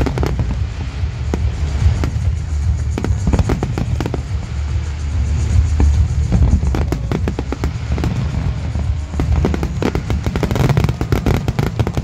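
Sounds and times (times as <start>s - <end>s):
fireworks bangs and crackles: 0.0s - 12.0s
low booming: 0.0s - 12.0s.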